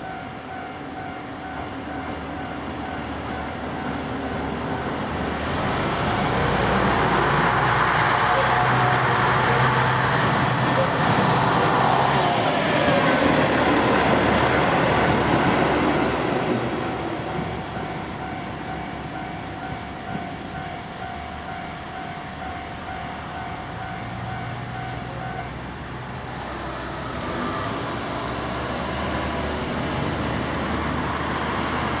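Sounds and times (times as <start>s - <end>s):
road traffic engines: 0.0s - 32.0s
train running noise: 0.0s - 32.0s.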